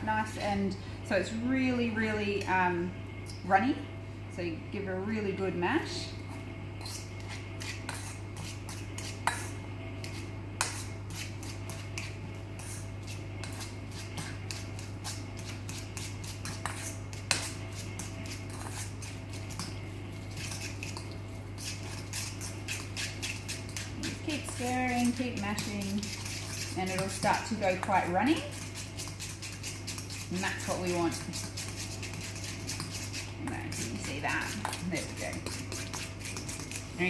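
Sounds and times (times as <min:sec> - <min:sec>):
steady low hum: 0:00.0 - 0:37.0
fork scraping metal bowl: 0:06.8 - 0:37.0.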